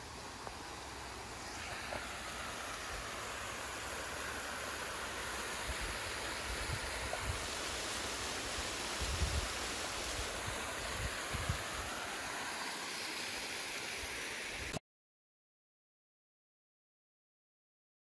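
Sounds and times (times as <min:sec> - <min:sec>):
running water rushing: 0:00.0 - 0:14.8.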